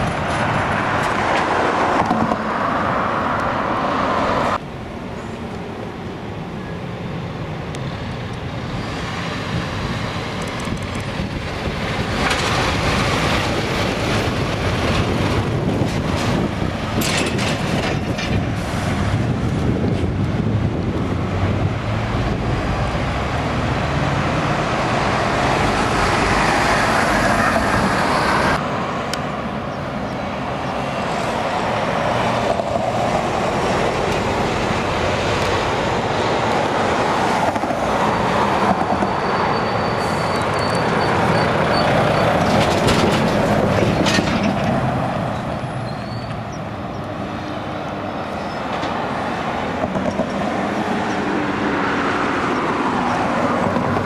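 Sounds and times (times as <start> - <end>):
trucks and cars driving past: 0.0 - 54.0.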